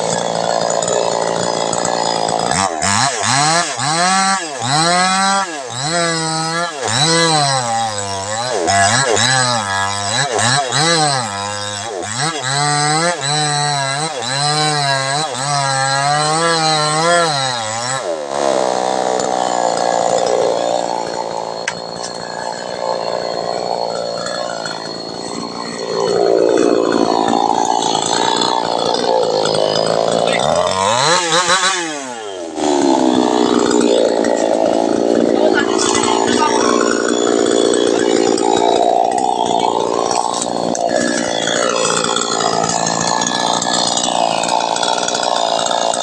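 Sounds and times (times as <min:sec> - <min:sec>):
chainsaw cutting wood: 0:00.0 - 0:46.0
chainsaw revving: 0:00.0 - 0:46.0.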